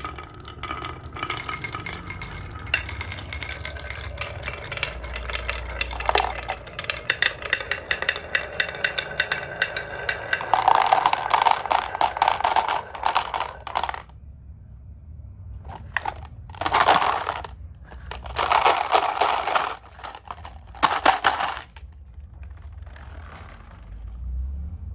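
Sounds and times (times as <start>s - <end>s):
marbles clattering down a track: 0.0s - 14.1s, 15.7s - 24.4s.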